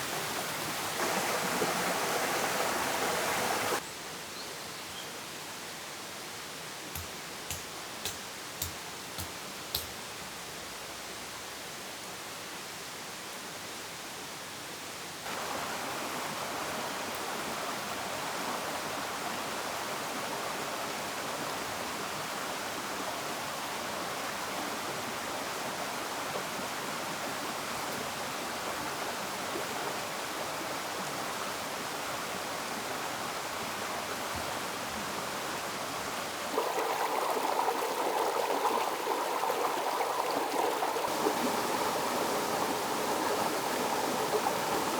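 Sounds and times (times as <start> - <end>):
running water rushing: 0.0 - 3.8, 6.2 - 11.9, 15.2 - 44.9.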